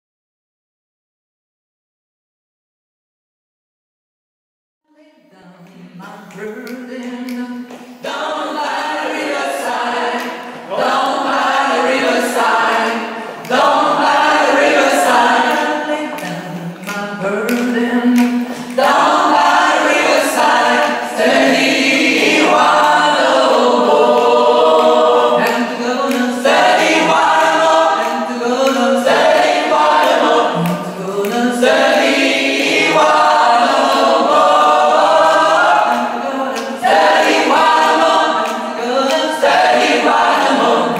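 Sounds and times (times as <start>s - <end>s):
mixed choir singing unaccompanied: 7.3s - 40.9s.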